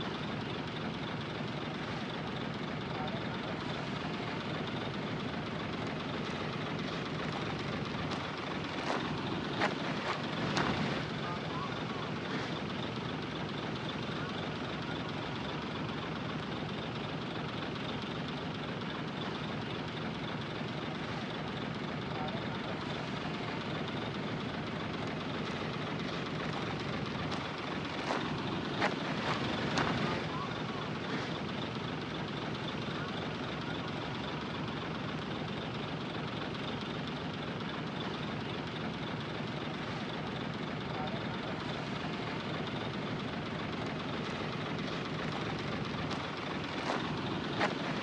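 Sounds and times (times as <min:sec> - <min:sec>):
heavy diesel engine droning: 0:00.0 - 0:48.0.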